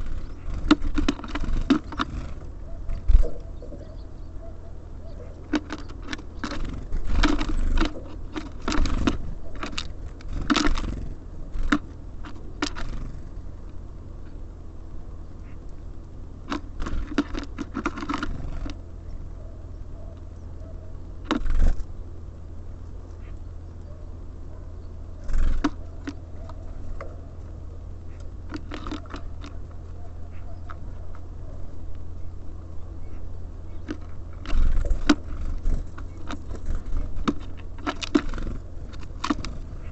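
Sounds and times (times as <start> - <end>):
birds pecking at feeder: 0.0 - 24.0, 24.8 - 39.9
steady low hum: 0.0 - 39.9.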